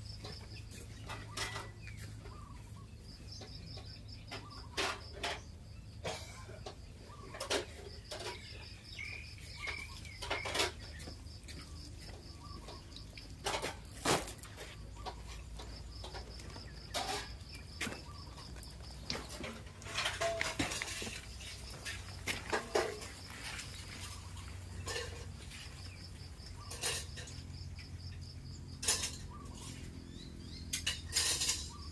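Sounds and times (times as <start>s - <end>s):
birds chirping: 0.0s - 31.9s
kitchen pots and dishes clattering: 0.1s - 2.5s, 3.3s - 28.0s, 28.6s - 29.8s, 30.6s - 31.9s.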